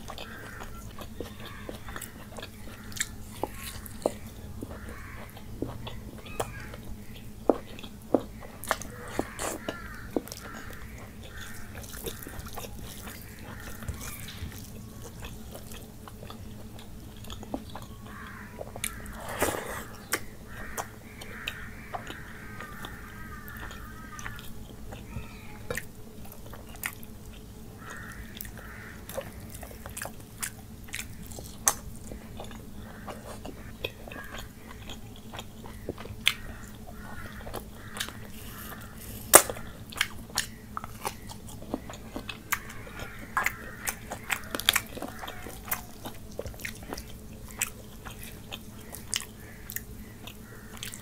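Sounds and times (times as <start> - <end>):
wet chewing: 0.0 - 51.0.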